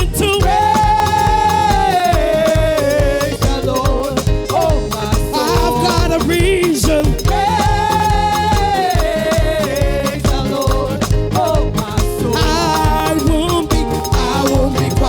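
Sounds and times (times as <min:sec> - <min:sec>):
upbeat dance music: 0:00.0 - 0:15.0.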